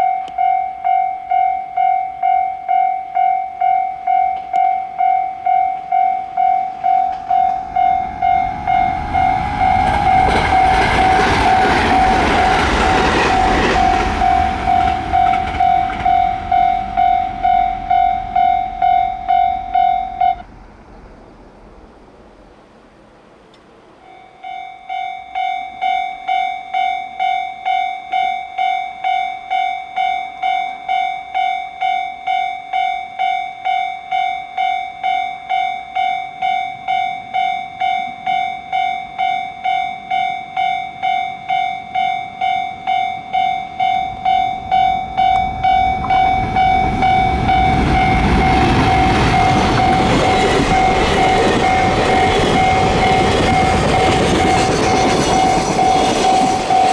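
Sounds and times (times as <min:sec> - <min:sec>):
level crossing bell clanging: 0:00.0 - 0:20.6, 0:24.1 - 0:56.9
train passing loudly: 0:01.3 - 0:24.1, 0:33.2 - 0:56.9.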